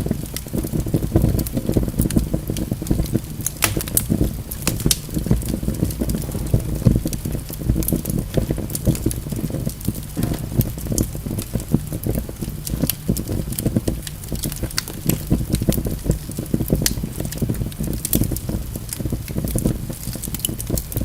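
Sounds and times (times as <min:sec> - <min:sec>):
low rumble of flames: 0:00.0 - 0:21.0
logs crackling and popping: 0:01.5 - 0:06.1, 0:07.5 - 0:21.0.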